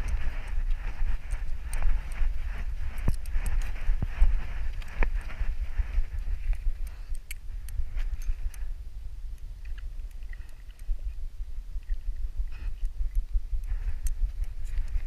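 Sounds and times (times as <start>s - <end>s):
low rumble of camera rubbing: 0.0s - 8.8s, 9.6s - 15.0s.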